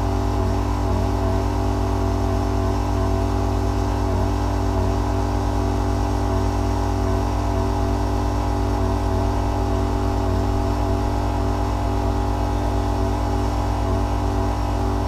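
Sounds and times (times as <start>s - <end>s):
motor and pump humming: 0.0s - 15.0s.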